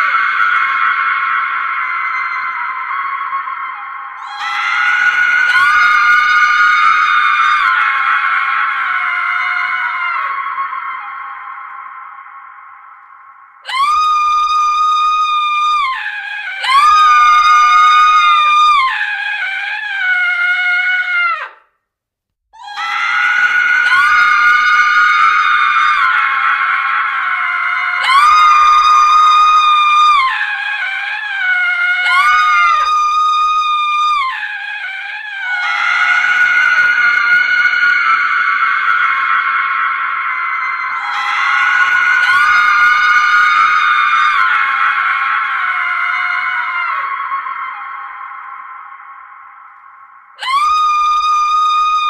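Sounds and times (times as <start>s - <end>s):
woman screaming: 0.0s - 12.2s, 13.6s - 21.6s, 22.6s - 49.7s, 50.4s - 52.0s.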